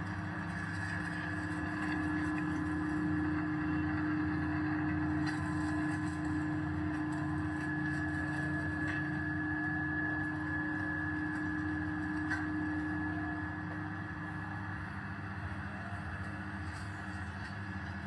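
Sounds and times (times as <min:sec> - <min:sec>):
pulverizer motor hum and whine: 0:00.0 - 0:18.0.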